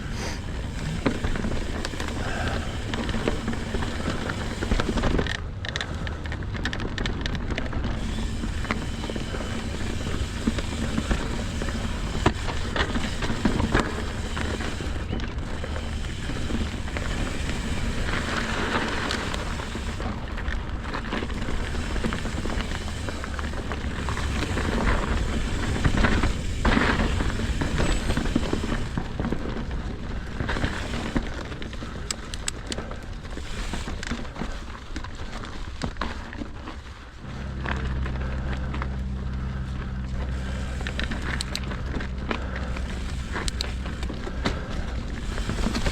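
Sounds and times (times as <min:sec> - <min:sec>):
bike rattling and knocking: 0:00.0 - 0:45.9
bike tyres rolling: 0:00.0 - 0:45.9.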